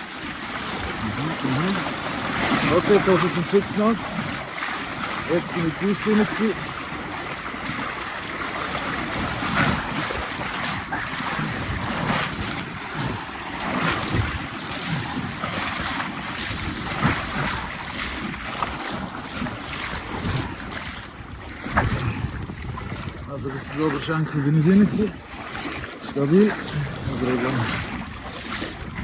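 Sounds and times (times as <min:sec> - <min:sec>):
river current rushing: 0:00.0 - 0:28.7
splashes of wading legs: 0:00.0 - 0:29.0
wind buffeting microphone: 0:00.7 - 0:29.0.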